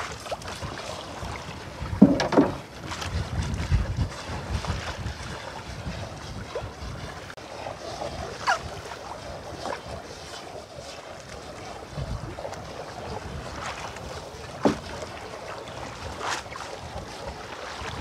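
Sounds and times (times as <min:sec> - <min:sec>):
water washing against boat: 0:00.0 - 0:18.0
wind buffeting microphone: 0:00.4 - 0:10.8, 0:11.4 - 0:18.0.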